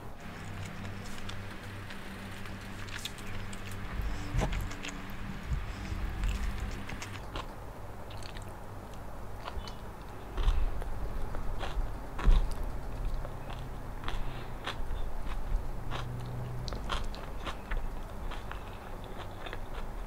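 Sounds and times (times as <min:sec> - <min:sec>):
person chewing food: 0:00.2 - 0:20.0.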